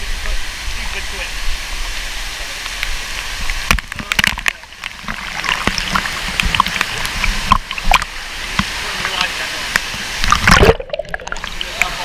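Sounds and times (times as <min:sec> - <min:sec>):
water splashing and sloshing: 0:01.7 - 0:12.0.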